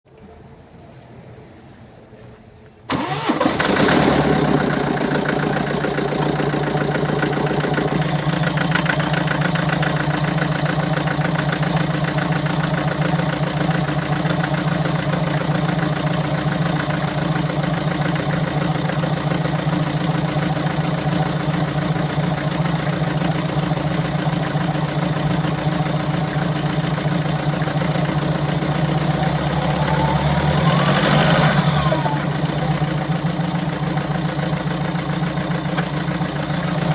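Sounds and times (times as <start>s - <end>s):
diesel engine idling unevenly: 2.9s - 36.9s.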